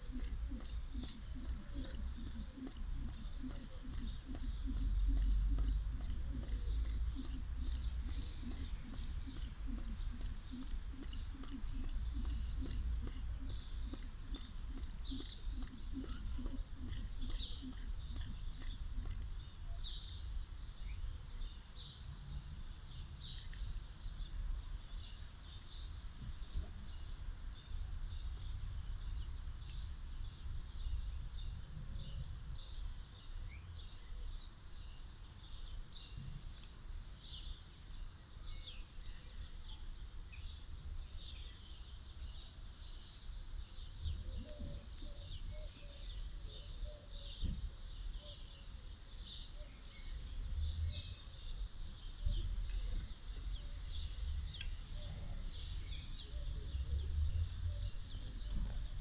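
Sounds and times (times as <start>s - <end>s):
steady low rumble: 0.0s - 42.6s, 50.1s - 59.0s
birds chirping: 0.0s - 59.0s.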